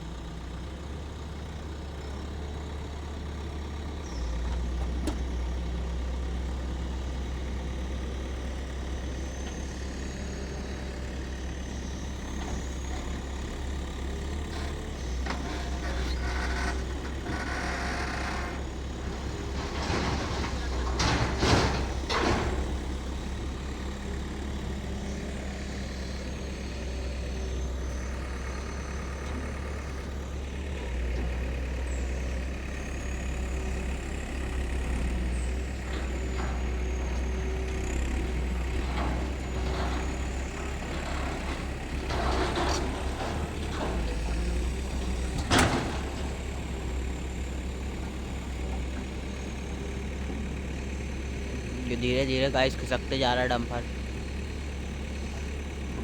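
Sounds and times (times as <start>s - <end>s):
diesel engines running under load: 0.0s - 56.0s.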